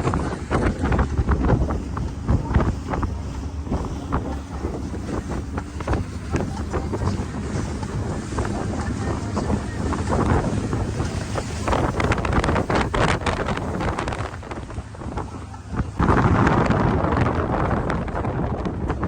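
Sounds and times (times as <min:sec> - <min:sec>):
steady low rumble: 0:00.0 - 0:19.0
wind buffeting microphone: 0:00.0 - 0:19.0.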